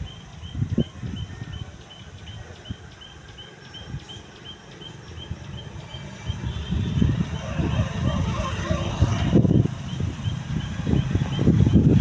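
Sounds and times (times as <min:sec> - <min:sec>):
bird chirping: 0:00.0 - 0:11.9.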